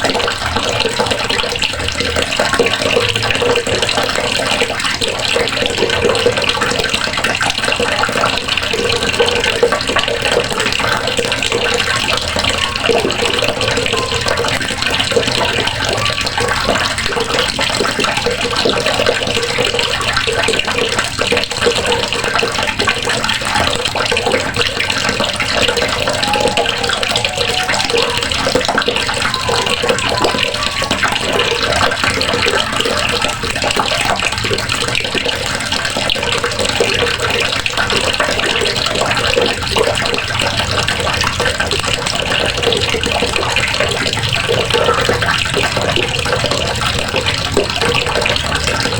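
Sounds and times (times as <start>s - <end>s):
water running from faucet: 0.0s - 48.9s
water splashing into basin: 0.0s - 48.9s.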